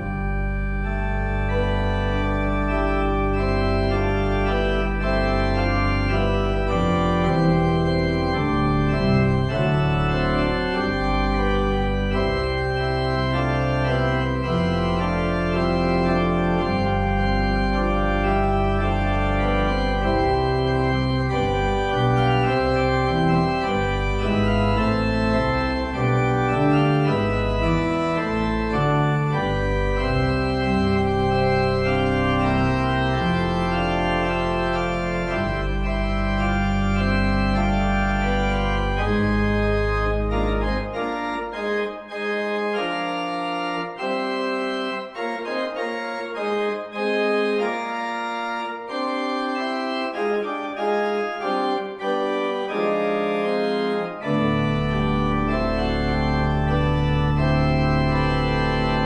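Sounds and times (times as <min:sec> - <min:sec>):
deep organ pedal bass: 0:00.0 - 0:59.0
organ chords: 0:00.0 - 0:59.0.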